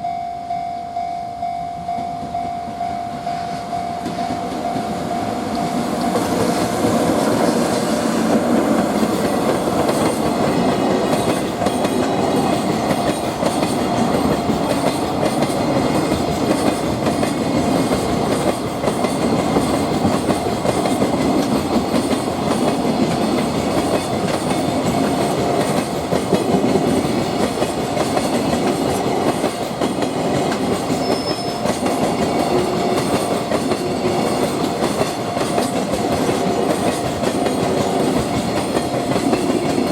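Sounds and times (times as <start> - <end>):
freight train wheels rumbling on rail: 1.8 - 39.9
clickety-clack over rail joints: 3.4 - 39.9.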